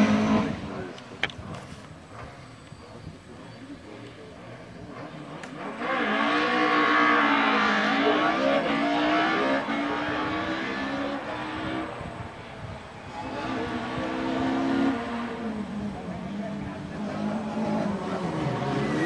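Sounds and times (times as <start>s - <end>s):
race car engine revving hard: 0.0s - 0.9s, 3.9s - 19.0s.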